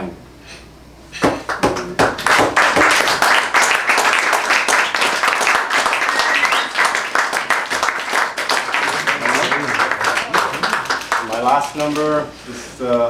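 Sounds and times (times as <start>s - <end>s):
audience applauding: 1.5s - 12.2s.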